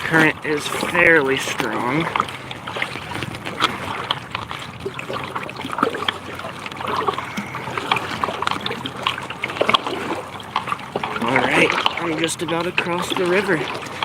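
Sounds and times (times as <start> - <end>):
paddle splashing in water: 0.0 - 14.0
water dripping off paddle: 0.0 - 14.0.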